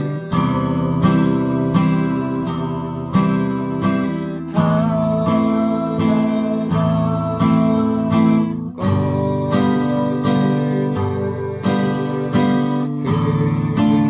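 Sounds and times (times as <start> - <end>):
acoustic guitar strummed in waltz rhythm: 0.0 - 14.0.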